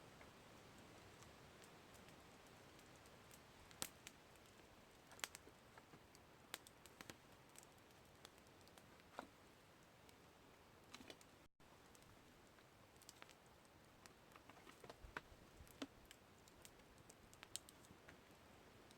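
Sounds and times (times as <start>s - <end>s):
campfire crackling: 0.0s - 18.9s
soft fire hiss: 0.0s - 18.9s.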